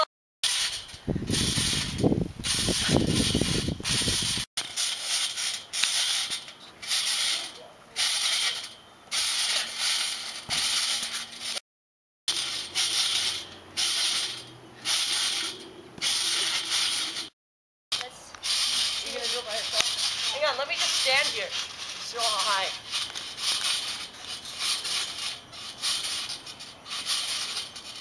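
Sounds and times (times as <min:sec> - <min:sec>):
trampoline springs rattling: 0:00.4 - 0:11.6, 0:12.3 - 0:17.3, 0:17.9 - 0:28.0.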